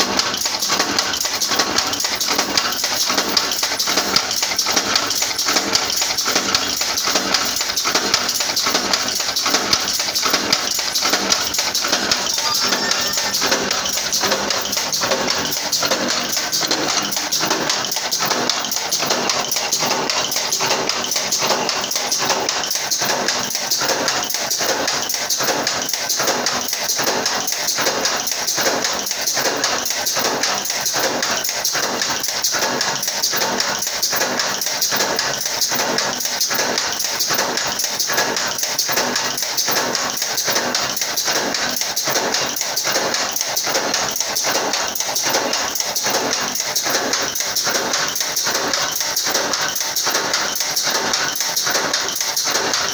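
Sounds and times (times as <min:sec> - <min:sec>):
power press stamping steel: 0:00.0 - 0:52.9.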